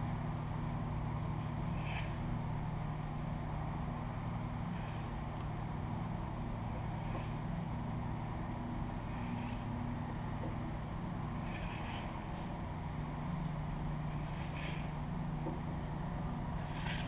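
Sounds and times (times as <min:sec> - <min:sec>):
ferry engines humming: 0:00.0 - 0:17.0.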